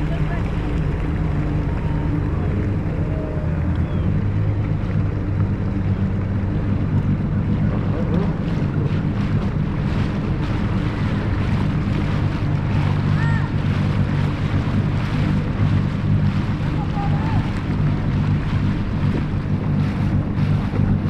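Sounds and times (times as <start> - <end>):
boat motor humming: 0.0 - 21.0
water rushing against hull: 0.0 - 21.0
wind buffeting microphone: 0.0 - 21.0.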